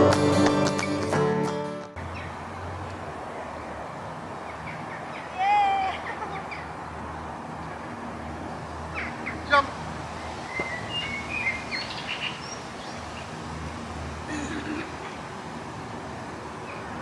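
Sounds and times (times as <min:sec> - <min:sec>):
birds chirping: 0:02.0 - 0:15.3, 0:16.5 - 0:17.0.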